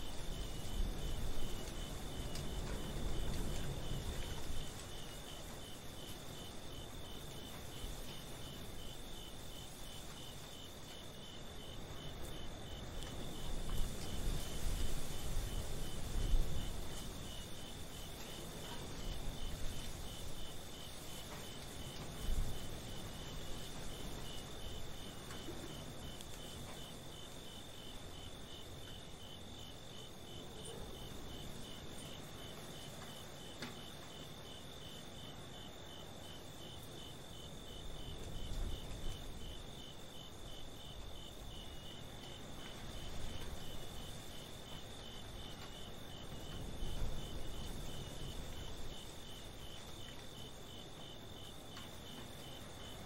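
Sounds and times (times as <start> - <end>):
crickets chirping: 0.0 - 53.0
high insect trill: 0.0 - 53.0.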